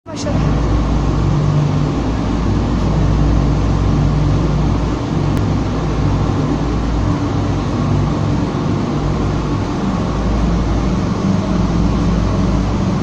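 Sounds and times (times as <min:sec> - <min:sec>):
machine humming and rumbling: 0:00.0 - 0:13.0.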